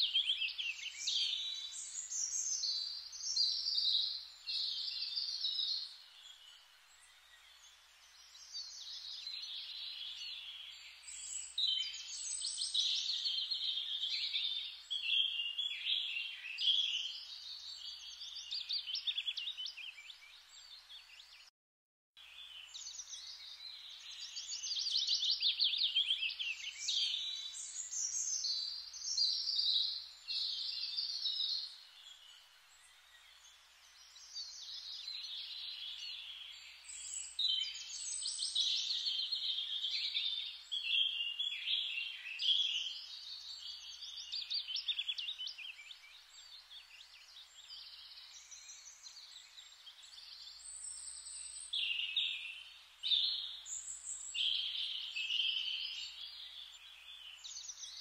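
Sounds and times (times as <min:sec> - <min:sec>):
birds chirping and singing: 0:00.0 - 0:21.5, 0:22.4 - 0:58.0.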